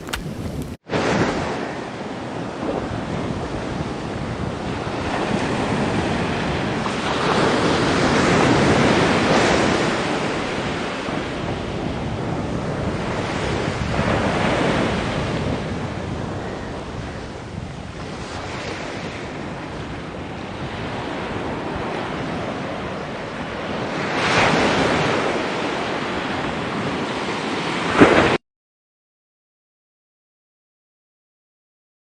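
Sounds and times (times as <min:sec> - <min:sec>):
ocean waves washing ashore: 0:00.0 - 0:28.4
wind on microphone: 0:00.0 - 0:28.4.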